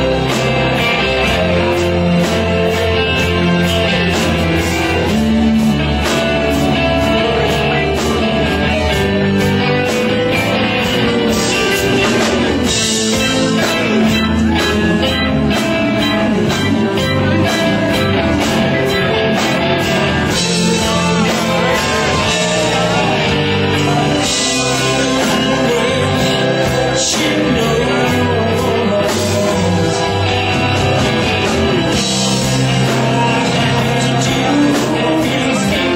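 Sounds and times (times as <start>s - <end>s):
electric guitar: 0.0s - 35.9s
person singing: 0.0s - 35.9s
rock band playing live: 0.0s - 35.9s.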